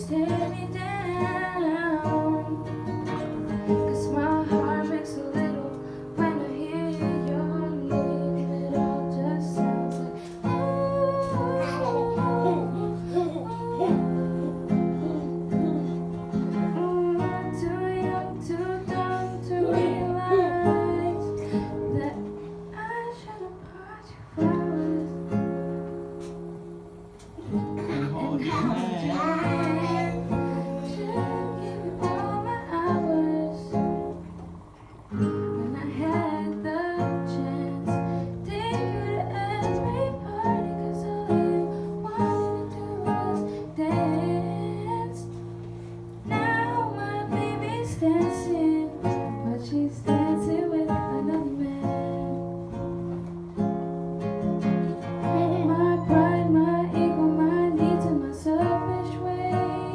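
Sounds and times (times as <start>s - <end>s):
woman singing: 0.0s - 26.3s, 27.4s - 34.5s, 35.2s - 45.6s, 46.2s - 53.4s, 55.0s - 59.9s
acoustic guitar chords: 0.0s - 59.9s.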